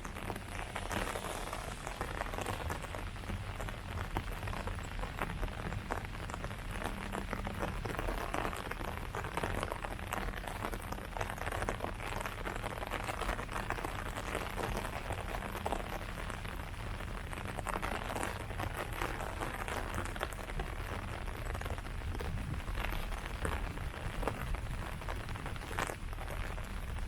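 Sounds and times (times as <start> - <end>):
rain pattering on leaves: 0.0 - 27.0.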